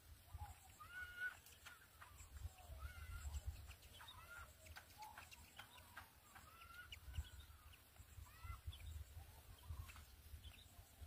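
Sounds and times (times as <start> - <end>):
bird giving slurred calls: 0.3 - 10.1.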